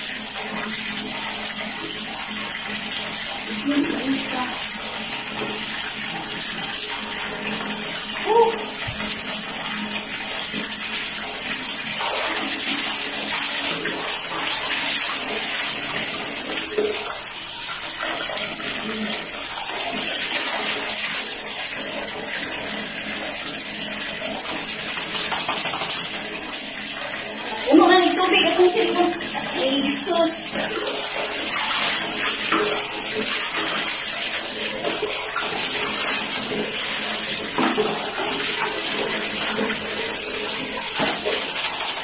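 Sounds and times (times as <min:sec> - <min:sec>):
water splashing on tiled floor: 0:00.0 - 0:42.0.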